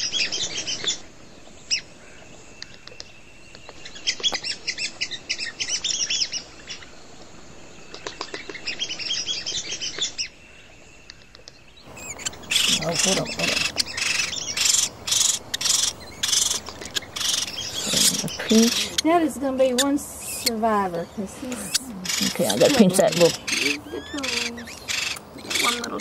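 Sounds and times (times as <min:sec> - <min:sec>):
woodpeckers chirping: 0:00.0 - 0:26.0.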